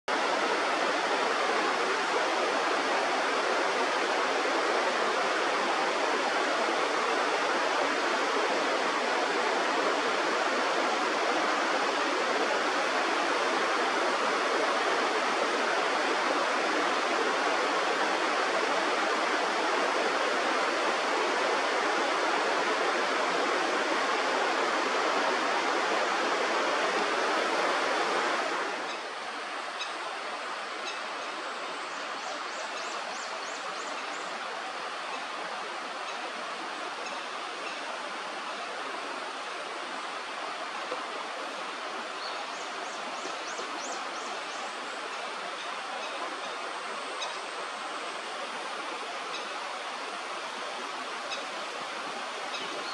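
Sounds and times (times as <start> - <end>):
river rushing over rocks: 0.1 - 52.9.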